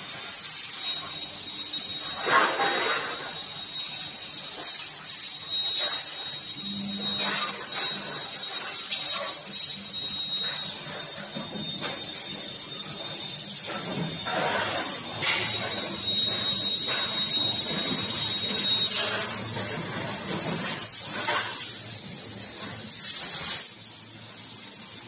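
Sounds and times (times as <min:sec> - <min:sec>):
assist gas hissing in bursts: 0:00.0 - 0:25.0
thin steady high tone: 0:00.0 - 0:25.0.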